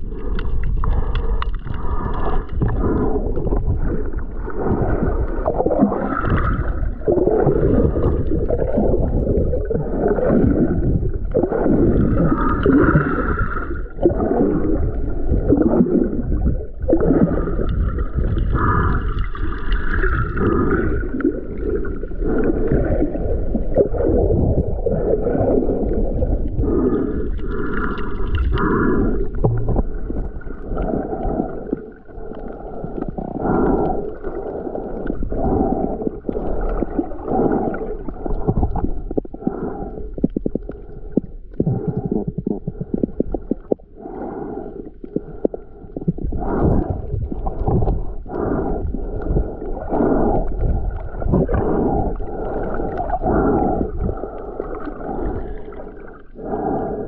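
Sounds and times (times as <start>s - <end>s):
muffled underwater sloshing: 0.0s - 57.0s.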